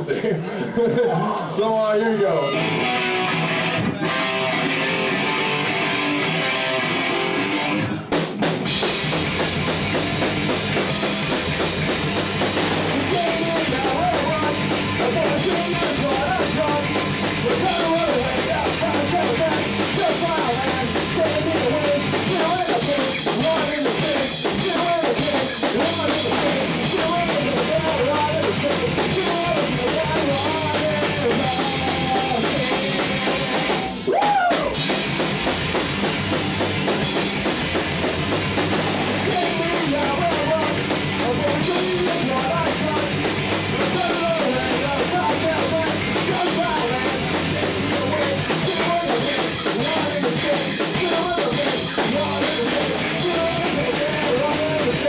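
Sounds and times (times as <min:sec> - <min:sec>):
punk rock band playing: 0:00.0 - 0:55.0.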